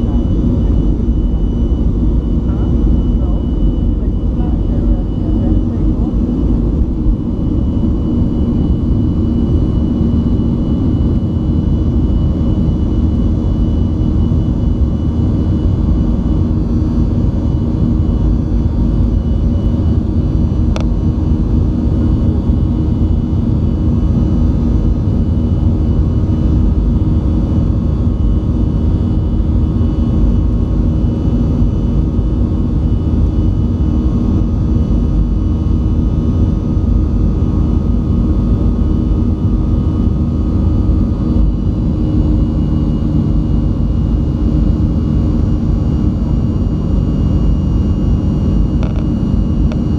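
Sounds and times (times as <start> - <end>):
jet engines at takeoff: 0.0 - 49.9.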